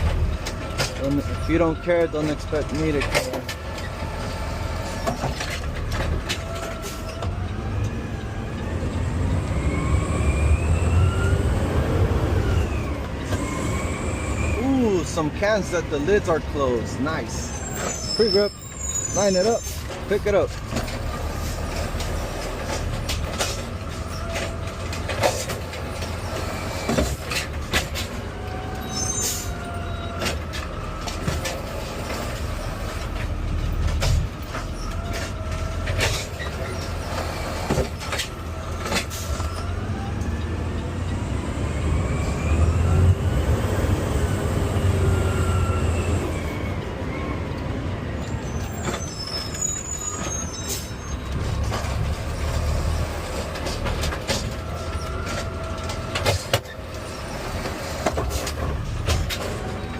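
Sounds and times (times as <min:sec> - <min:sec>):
garbage truck engine humming: 0:00.0 - 0:59.9.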